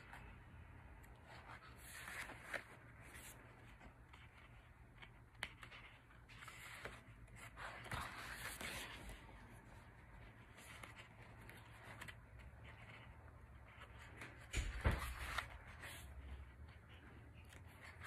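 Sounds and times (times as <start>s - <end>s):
pages turning: 1.0s - 18.0s.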